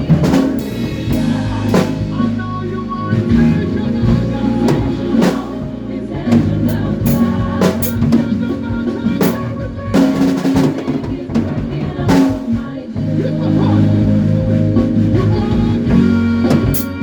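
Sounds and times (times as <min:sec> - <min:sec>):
band playing: 0:00.0 - 0:17.0
drum kit snare and cymbals: 0:00.0 - 0:17.0.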